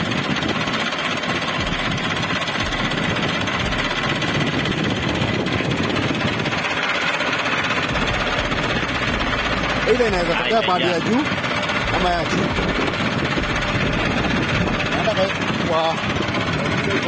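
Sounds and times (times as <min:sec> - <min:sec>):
engine rattling: 0:00.0 - 0:17.0.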